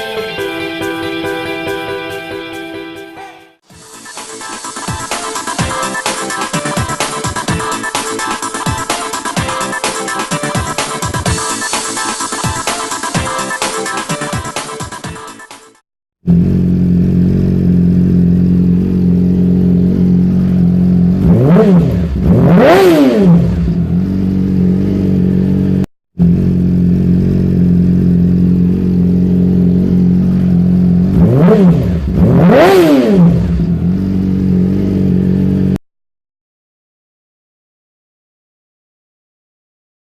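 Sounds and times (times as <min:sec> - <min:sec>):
motorcycle engine idling and revving: 0:03.7 - 0:35.8.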